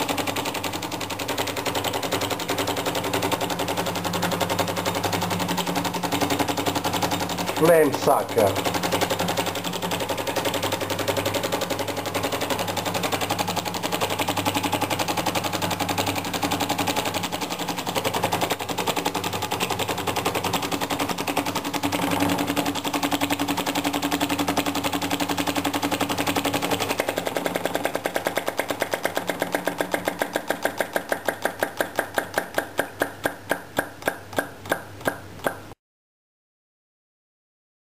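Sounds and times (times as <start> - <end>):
model engine clicking: 0.0 - 35.7.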